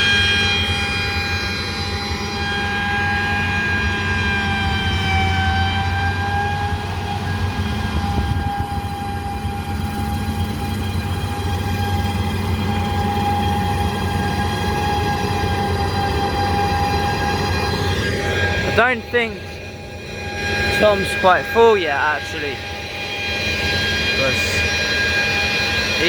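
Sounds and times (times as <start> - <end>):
high mechanical whine: 0.0 - 26.0.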